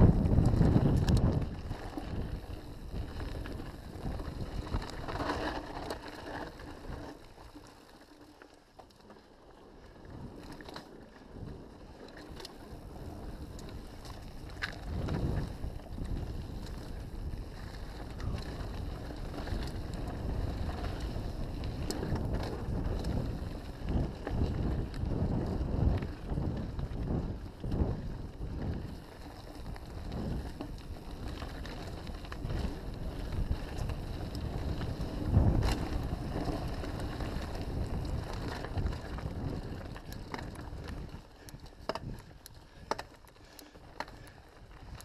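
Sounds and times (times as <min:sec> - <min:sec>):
wind rushing over microphone: 0:00.0 - 0:05.9, 0:12.7 - 0:43.0
bike rattling and knocking: 0:00.0 - 0:07.9, 0:12.3 - 0:45.0
bike tyres rolling on dirt: 0:00.0 - 0:45.0.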